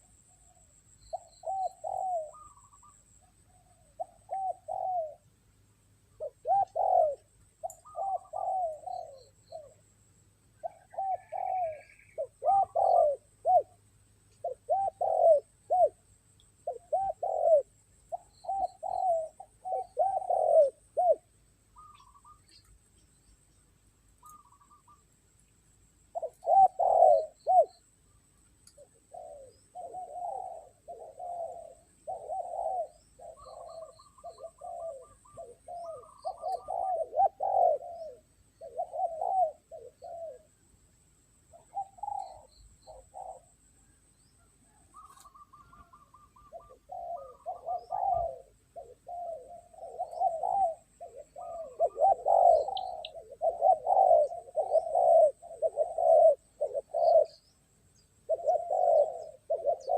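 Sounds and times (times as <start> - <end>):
doves cooing: 0.0 - 5.3, 6.1 - 9.9, 10.5 - 22.7, 26.0 - 40.6, 41.4 - 59.9.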